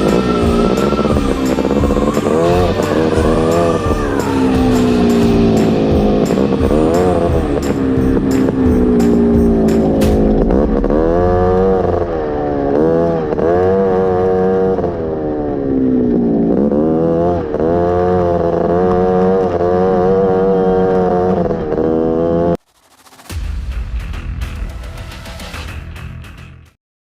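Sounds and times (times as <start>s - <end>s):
buggy engine revving: 0.0s - 22.6s.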